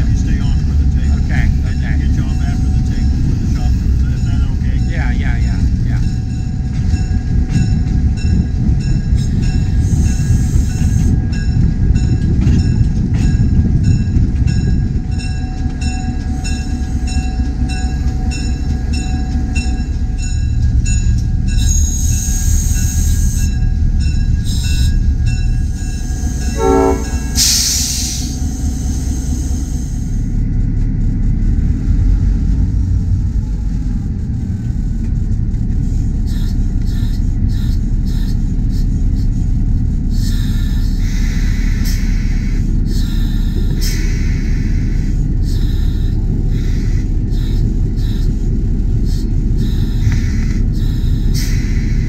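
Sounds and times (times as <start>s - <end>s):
train rumbling: 0.0s - 52.0s.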